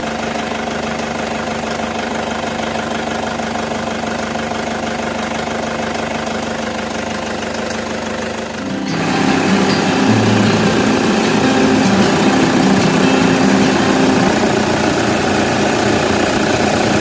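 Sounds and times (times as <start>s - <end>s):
car engine idling: 0.7s - 17.0s.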